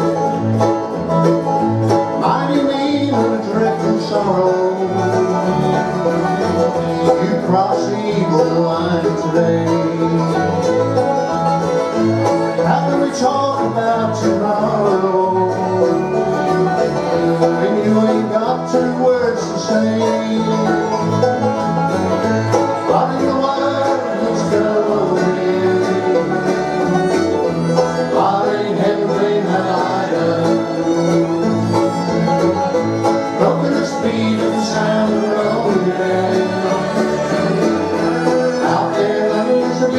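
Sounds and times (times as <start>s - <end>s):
banjo picking: 0.0s - 39.9s
bluegrass band playing: 0.0s - 39.9s
guitar picking: 0.0s - 39.9s.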